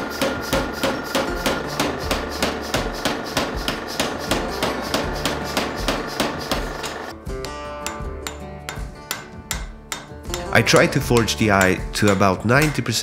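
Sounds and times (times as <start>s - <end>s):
power hammer striking steel: 0.0s - 7.2s, 7.8s - 12.8s.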